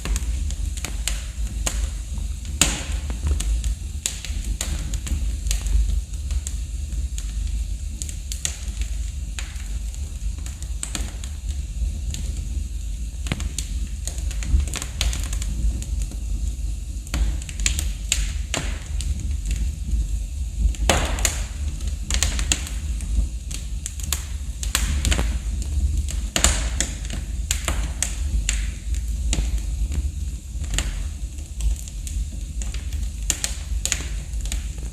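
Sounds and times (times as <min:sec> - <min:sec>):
logs crackling and popping: 0:00.0 - 0:34.9
low rumble of flames: 0:00.0 - 0:34.9.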